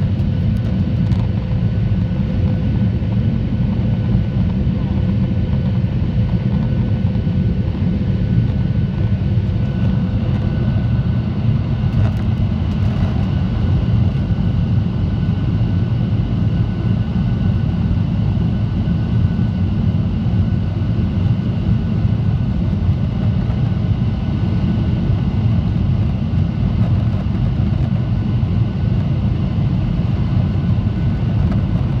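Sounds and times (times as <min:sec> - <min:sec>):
jet engine rumble: 0:00.0 - 0:32.0.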